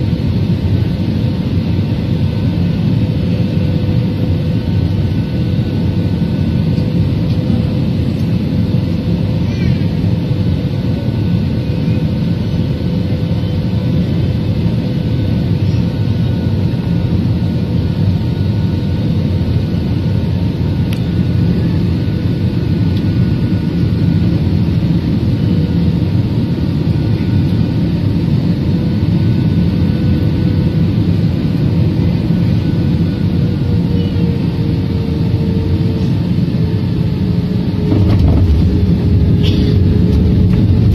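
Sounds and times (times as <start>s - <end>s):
jet engine roar in cabin: 0.0s - 40.9s
steady engine whine: 0.0s - 40.9s.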